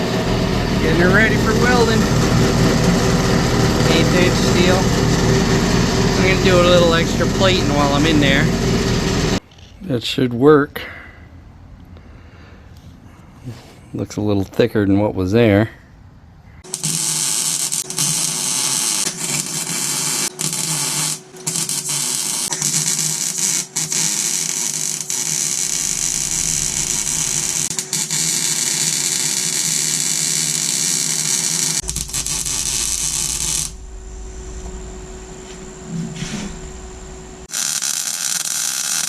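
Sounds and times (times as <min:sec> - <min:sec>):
welder hum: 0:00.0 - 0:09.4, 0:16.6 - 0:39.0
arc welder crackling: 0:00.0 - 0:09.5, 0:16.6 - 0:39.0.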